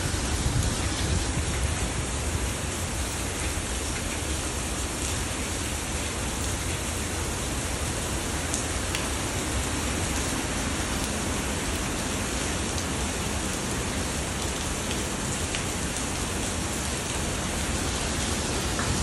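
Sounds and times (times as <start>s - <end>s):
heavy rain rushing: 0.0s - 19.0s.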